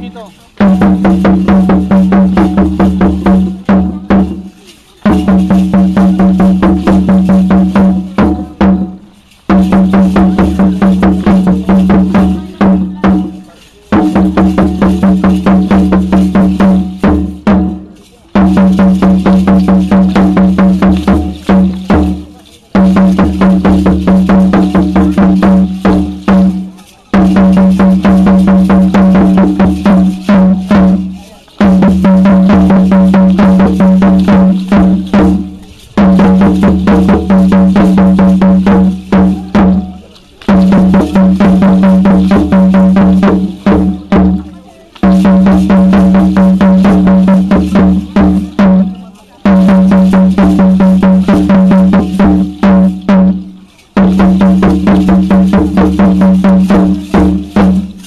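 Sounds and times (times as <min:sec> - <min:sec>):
fast ringing drumbeats: 0:00.0 - 0:58.0.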